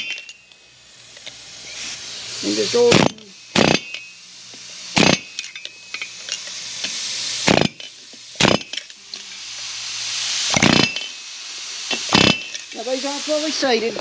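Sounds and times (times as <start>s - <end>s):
pneumatic air hammer bursts: 0.0s - 12.9s
air hiss: 0.0s - 14.0s.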